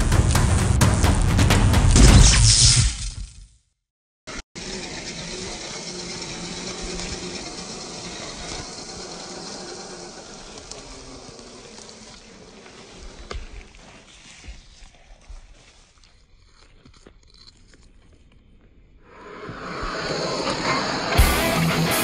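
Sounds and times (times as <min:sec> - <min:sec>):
electric motor and gears whirring: 0:00.0 - 0:03.6, 0:04.3 - 0:22.0.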